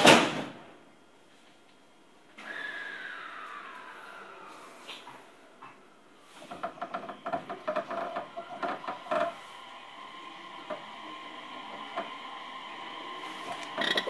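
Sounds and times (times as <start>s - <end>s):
electrical hum: 0.6s - 14.0s.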